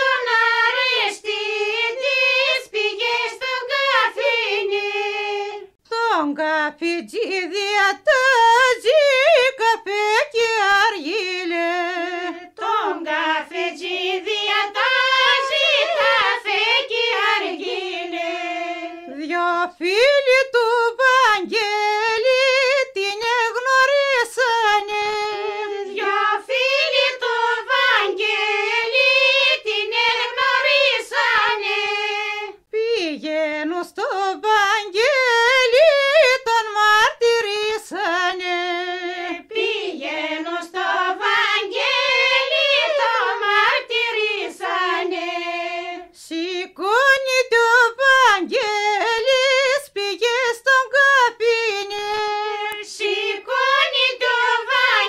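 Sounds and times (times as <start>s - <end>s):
person singing folk song: 0.0s - 55.0s.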